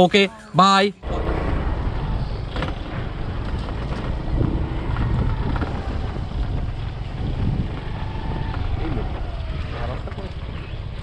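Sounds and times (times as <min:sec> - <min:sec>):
motorcycle engine rumble: 0:01.0 - 0:11.0
wind noise on microphone: 0:01.0 - 0:11.0.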